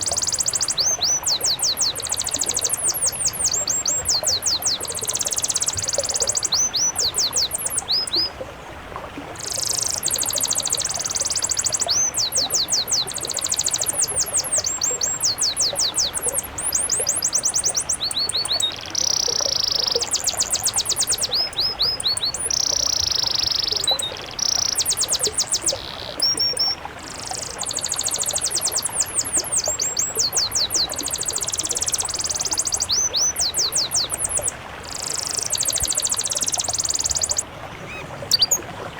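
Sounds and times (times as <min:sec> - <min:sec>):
songbird singing: 0:00.0 - 0:08.4, 0:09.4 - 0:38.9.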